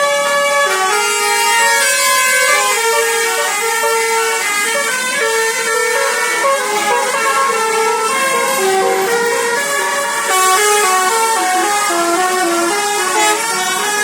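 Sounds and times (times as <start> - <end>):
musical bus horn melody: 0.0 - 14.0.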